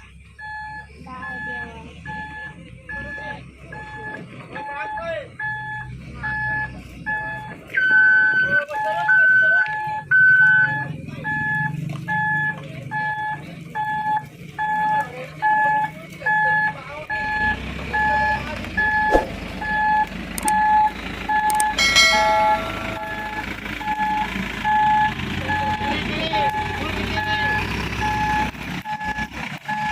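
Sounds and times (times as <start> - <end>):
diesel engine rumble: 0.0 - 29.9
truck reversing alarm beeps: 0.0 - 29.9.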